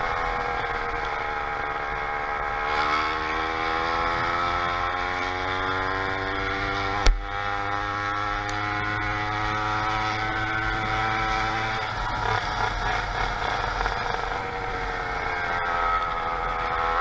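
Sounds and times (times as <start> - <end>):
small bicycle engine running: 0.0 - 17.0.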